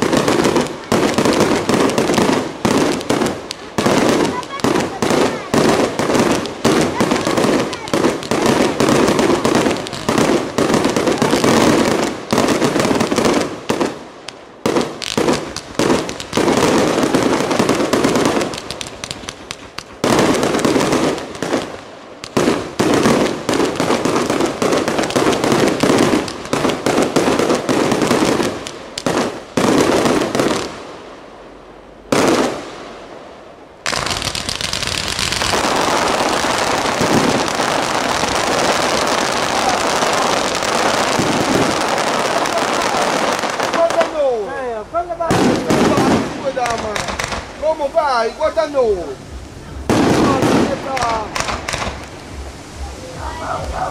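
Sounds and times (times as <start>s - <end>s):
fireworks bangs and crackles: 0.0s - 31.4s, 32.1s - 53.9s.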